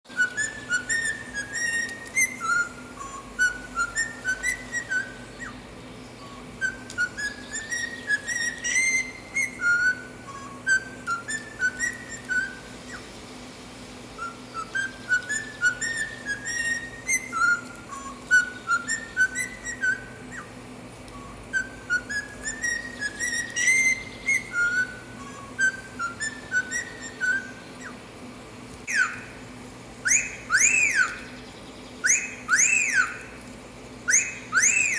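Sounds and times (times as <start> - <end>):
cockatiel whistling: 0.1 - 5.6, 6.2 - 13.0, 14.2 - 20.5, 21.2 - 28.0, 28.9 - 29.4, 30.0 - 31.4, 32.0 - 33.3, 34.1 - 34.9
faint steady hum: 0.1 - 34.9.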